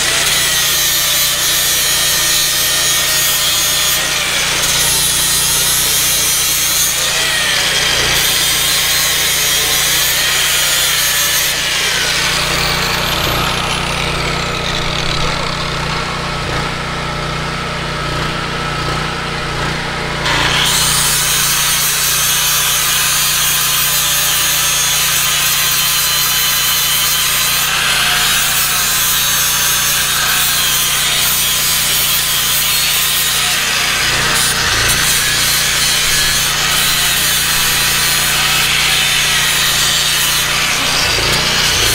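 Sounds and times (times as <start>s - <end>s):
angle grinder grinding steel: 0.0s - 41.9s
small engine humming: 0.0s - 41.9s.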